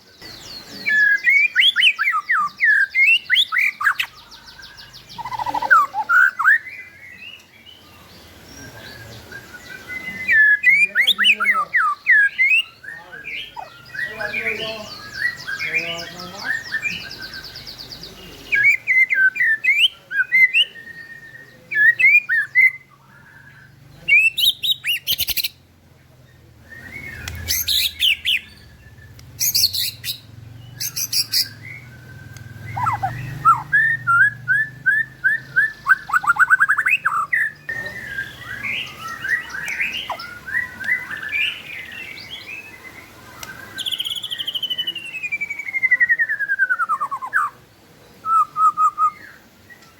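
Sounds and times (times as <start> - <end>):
songbird singing whistles and trills: 0.0 - 49.9.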